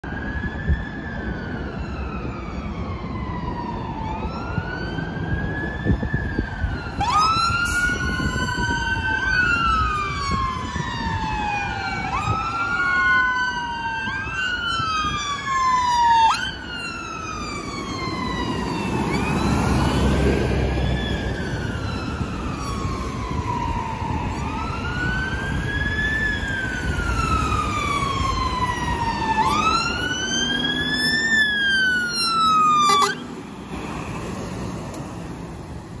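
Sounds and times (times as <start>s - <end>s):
fire engine sirens wailing: 0.0s - 36.0s
vehicle and road noise: 0.0s - 36.0s.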